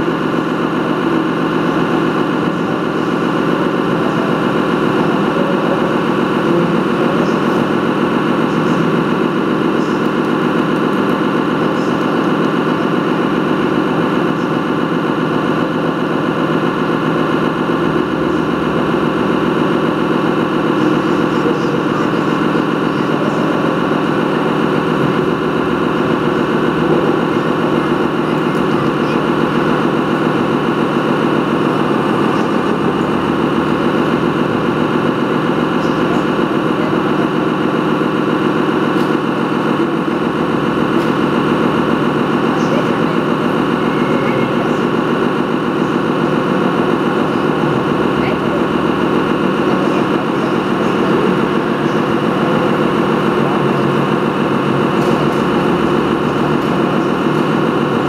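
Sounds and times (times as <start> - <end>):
model truck engine: 0.0 - 58.0.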